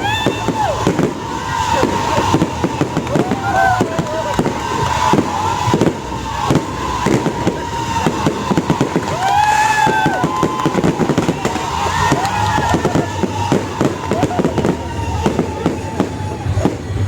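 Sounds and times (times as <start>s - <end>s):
fireworks bangs and crackles: 0.0s - 17.0s
voices calling out: 0.0s - 17.0s.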